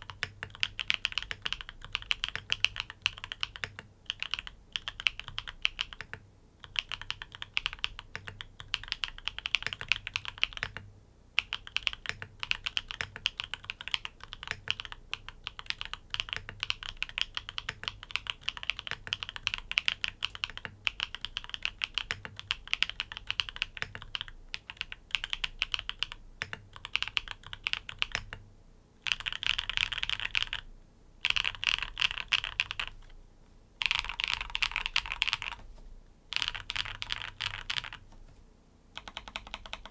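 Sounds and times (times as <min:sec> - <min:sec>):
mechanical keyboard typing: 0:00.0 - 0:28.4, 0:29.0 - 0:33.0, 0:33.8 - 0:35.6, 0:36.3 - 0:38.1, 0:39.0 - 0:39.9.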